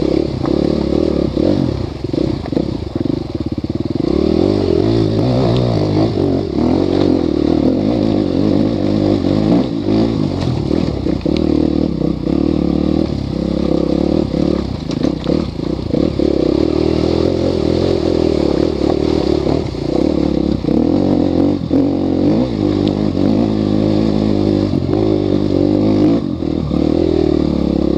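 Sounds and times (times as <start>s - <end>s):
motorcycle engine running hard: 0.0s - 27.9s.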